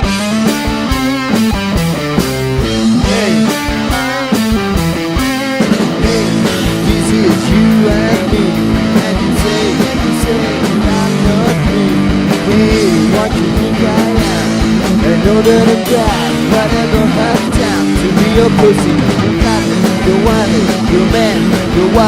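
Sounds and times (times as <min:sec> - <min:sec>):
melodic guitar line bending: 0:00.0 - 0:22.0
rock band playing: 0:00.0 - 0:22.0.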